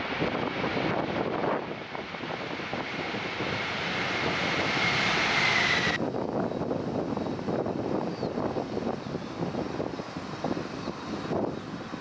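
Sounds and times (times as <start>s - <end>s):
jet engines roaring with whine: 0.0s - 12.0s
turboprop airliner landing: 0.0s - 12.0s.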